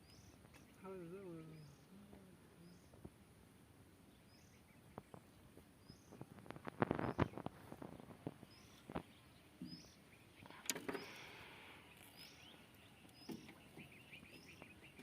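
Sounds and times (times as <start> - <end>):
bird chirping: 0.0 - 3.0, 4.0 - 15.0.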